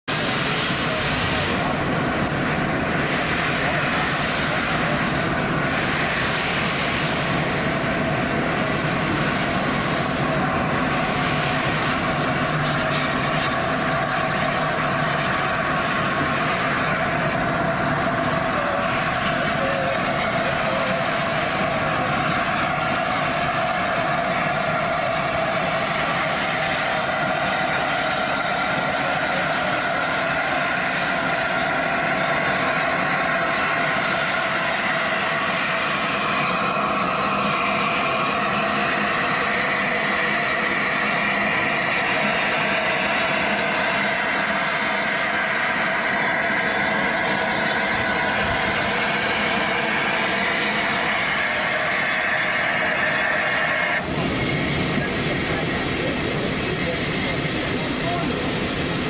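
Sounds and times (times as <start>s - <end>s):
locomotive idling hiss and hum: 0.1s - 59.0s.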